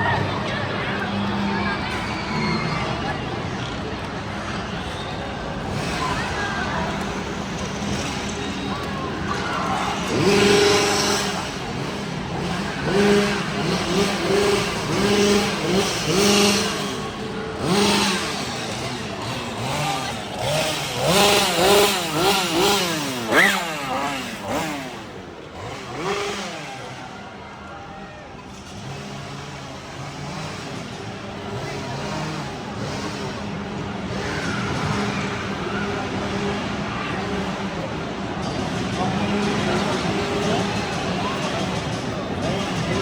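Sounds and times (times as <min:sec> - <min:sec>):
chainsaw engines revving: 0:00.0 - 0:43.0.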